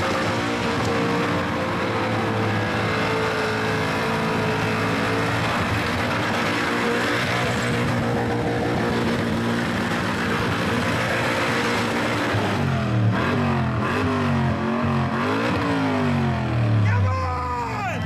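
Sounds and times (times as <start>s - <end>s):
car engine at high revs: 0.0s - 16.9s.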